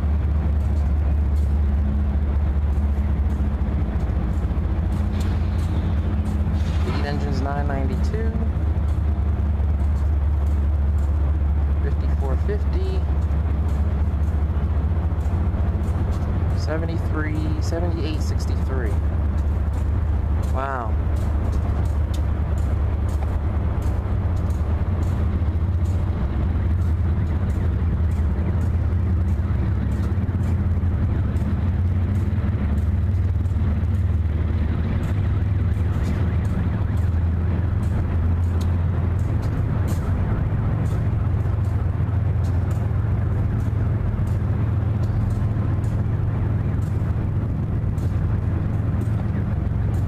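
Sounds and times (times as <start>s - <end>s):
diesel locomotive engine drone: 0.0s - 50.0s
freight train low rumble: 0.0s - 50.0s
faint light ticks: 8.0s - 50.0s.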